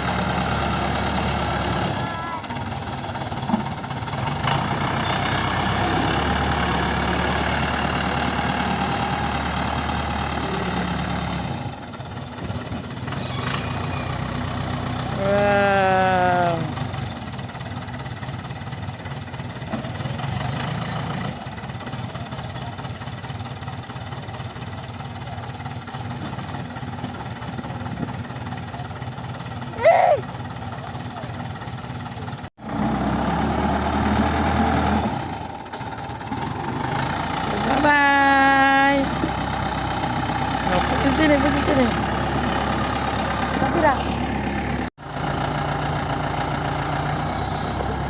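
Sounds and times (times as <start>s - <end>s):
backhoe engine running: 0.0s - 48.0s.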